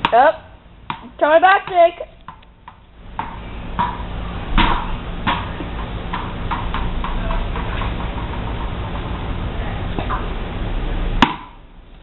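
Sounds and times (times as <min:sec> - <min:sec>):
rubber ball bouncing on concrete: 0:00.0 - 0:09.2, 0:11.2 - 0:11.6.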